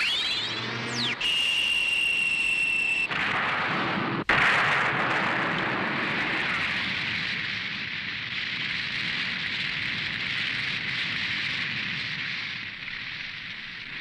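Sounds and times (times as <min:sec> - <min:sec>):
crackling hiss: 0:00.0 - 0:14.0.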